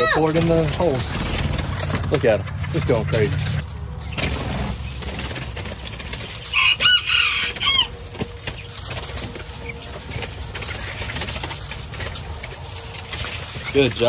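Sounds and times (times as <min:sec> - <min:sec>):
quail wings flapping: 0:00.0 - 0:14.0.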